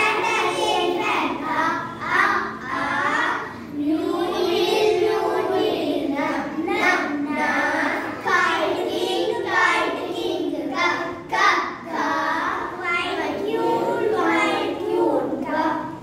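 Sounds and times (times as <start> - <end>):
girls singing in unison: 0.0 - 16.0.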